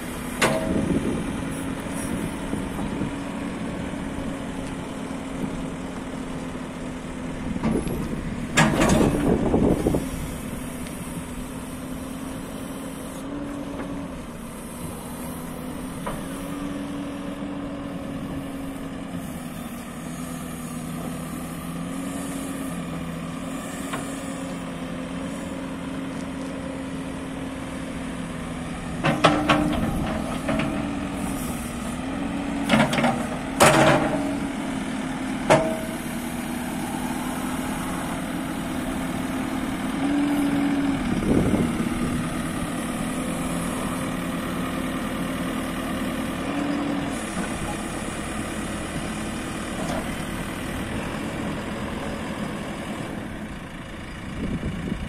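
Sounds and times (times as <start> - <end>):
diesel engine idling: 0.0 - 55.0
hydraulics working: 0.0 - 55.0.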